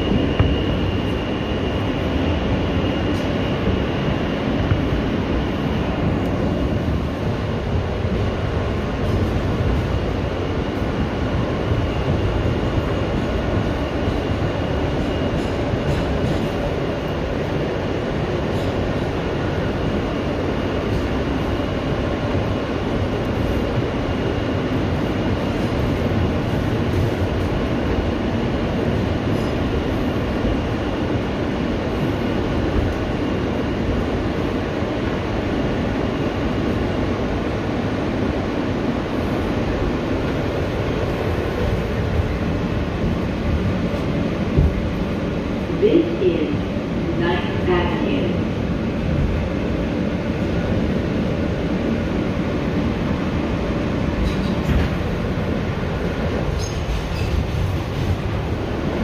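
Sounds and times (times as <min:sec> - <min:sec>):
subway train wheels rumbling on rail: 0:00.0 - 0:59.0.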